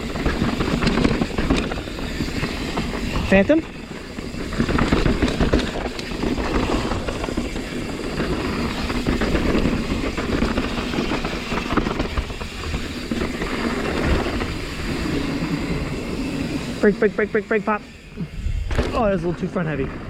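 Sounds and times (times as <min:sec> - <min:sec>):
wind noise on microphone: 0:00.0 - 0:16.8, 0:18.2 - 0:20.0
bike tyres rumbling on dirt: 0:00.0 - 0:20.0.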